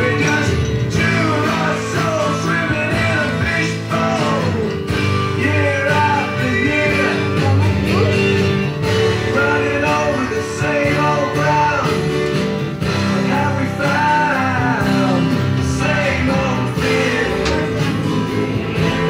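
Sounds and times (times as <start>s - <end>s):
slow rock song with singing: 0.0s - 19.0s.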